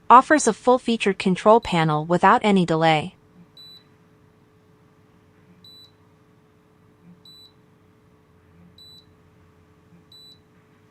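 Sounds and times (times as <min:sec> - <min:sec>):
air conditioner beeping: 0:00.4 - 0:04.8, 0:05.5 - 0:10.9.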